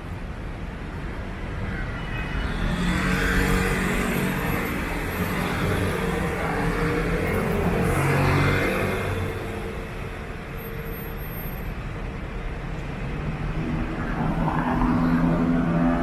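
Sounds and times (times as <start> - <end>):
road noise of passing vehicles: 0.0 - 16.0.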